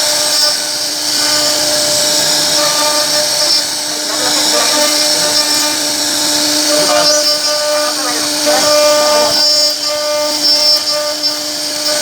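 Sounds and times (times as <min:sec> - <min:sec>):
router spindle whining cutting wood: 0:00.0 - 0:12.0.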